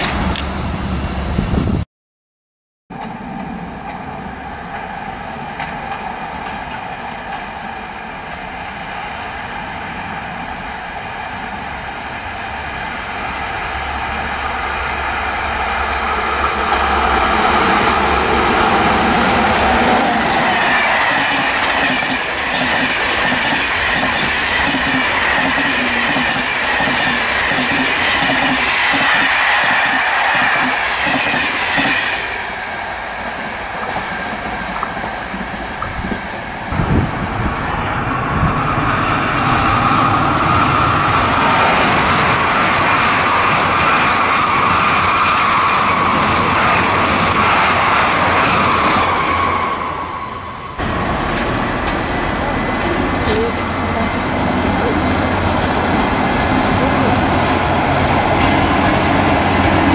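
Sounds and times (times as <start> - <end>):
passenger train passing: 0.0 - 1.8, 2.9 - 59.9
train approaching: 0.0 - 1.8, 2.9 - 59.9.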